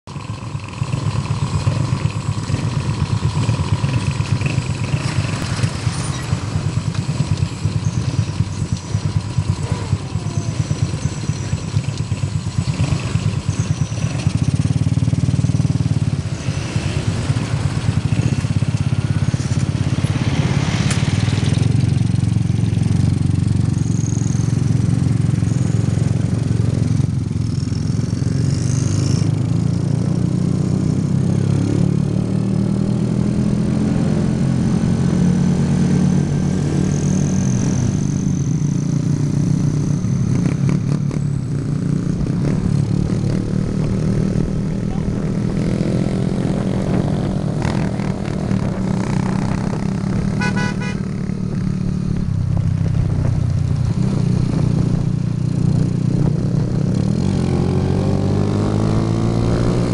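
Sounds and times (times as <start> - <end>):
small motorcycle engines running: 0.1 - 33.2, 33.8 - 59.9.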